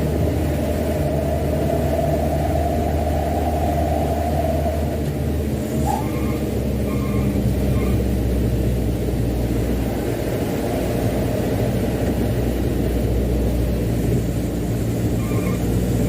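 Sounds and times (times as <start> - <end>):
diesel truck engine rumbling: 0.0 - 16.0
road noise: 0.0 - 16.0.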